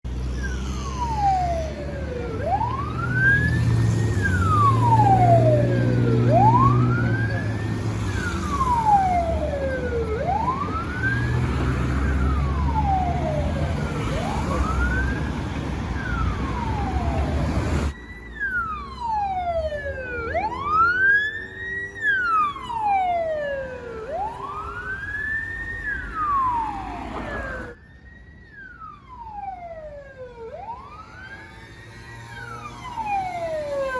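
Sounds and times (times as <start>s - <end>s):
heavy traffic rumble: 0.0s - 33.9s
ambulance wail siren: 0.1s - 33.9s.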